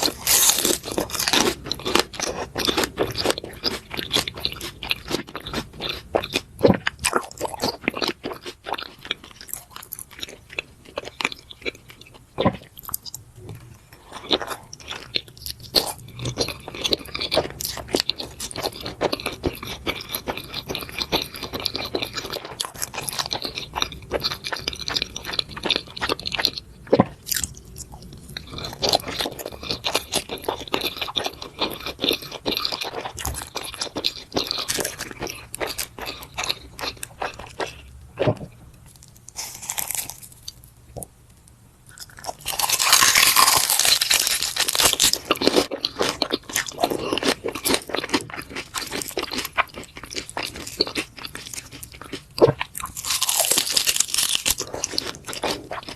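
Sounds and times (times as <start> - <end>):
wet chewing and crunching: 0.0 - 55.9.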